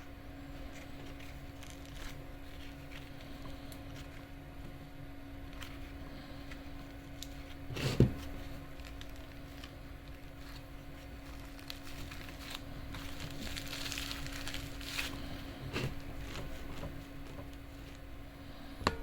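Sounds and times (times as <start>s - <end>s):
rustling: 0.0s - 4.4s, 5.4s - 18.8s
steady low hum: 0.0s - 19.0s.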